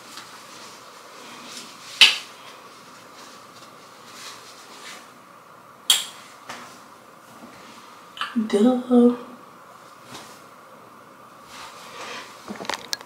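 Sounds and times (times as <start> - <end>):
faint room noise: 0.0 - 13.0.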